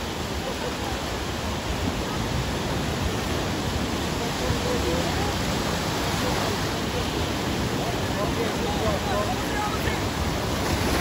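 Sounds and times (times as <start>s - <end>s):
faint voices: 0.0s - 11.0s
surf washing over shallows: 0.0s - 11.0s.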